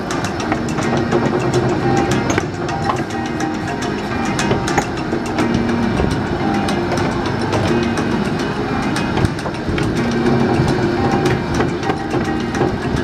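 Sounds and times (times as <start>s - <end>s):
irregular clicks and knocks: 0.0s - 13.0s
miniature train rumbling on track: 0.0s - 13.0s.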